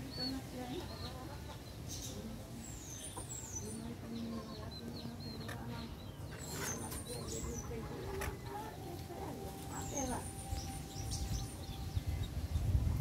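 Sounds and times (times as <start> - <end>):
chickens clucking: 0.0 - 10.6.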